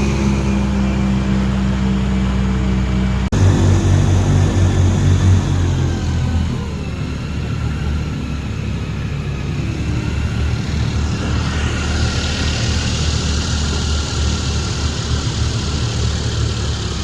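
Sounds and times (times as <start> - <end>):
airboat engine and propeller: 0.0 - 17.0.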